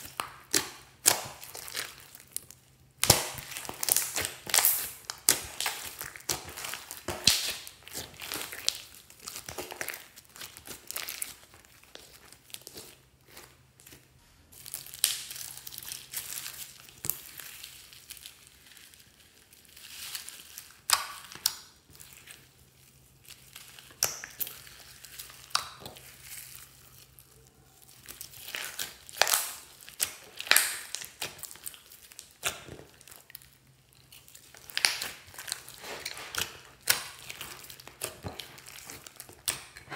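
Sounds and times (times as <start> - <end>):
foam beads popping and crackling: 0.0 - 13.5, 14.5 - 22.4, 23.1 - 39.9
hands squishing slime: 0.0 - 39.9.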